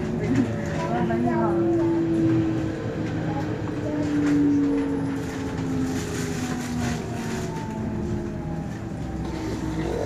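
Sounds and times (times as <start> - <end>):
wheels rumbling on rails: 0.0 - 10.0.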